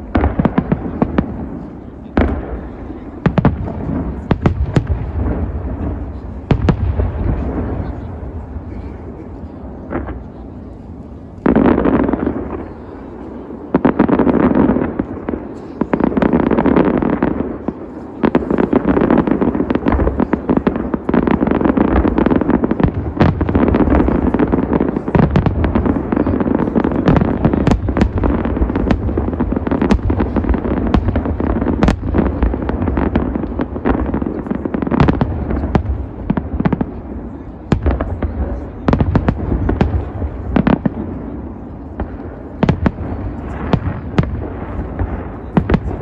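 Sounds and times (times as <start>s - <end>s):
continuous rumble: 0.0s - 46.0s
firework bangs and crackles: 0.0s - 46.0s.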